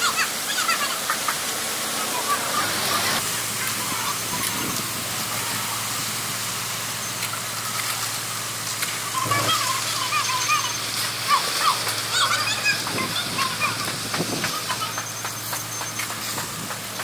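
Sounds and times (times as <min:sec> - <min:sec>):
pump engine hum: 0:00.0 - 0:17.0
wet concrete gushing from hose: 0:00.0 - 0:17.0.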